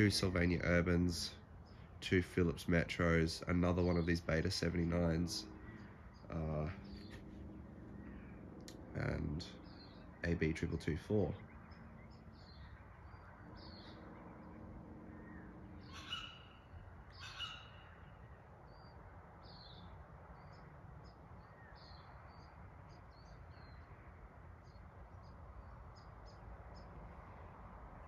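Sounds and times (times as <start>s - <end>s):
birds chirping: 0.0s - 28.0s
faint background noise: 0.0s - 28.0s
harsh bird calls: 0.0s - 28.0s.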